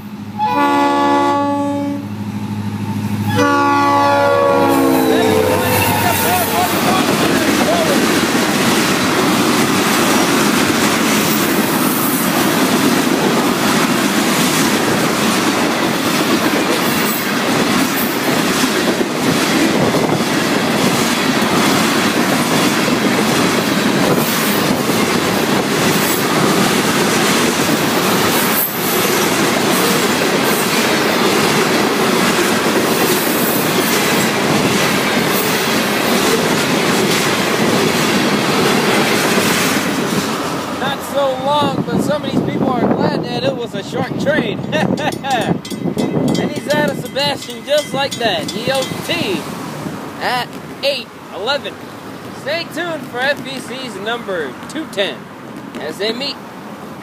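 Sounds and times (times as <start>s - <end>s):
freight train wheels rumbling: 0.0s - 57.0s
wheels clickety-clack on rail joints: 5.7s - 57.0s.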